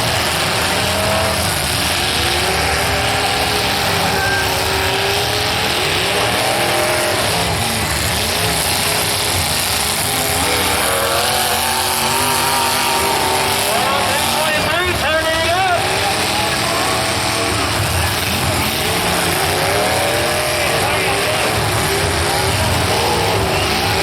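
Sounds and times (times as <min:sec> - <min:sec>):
car engines revving hard: 0:00.0 - 0:24.0.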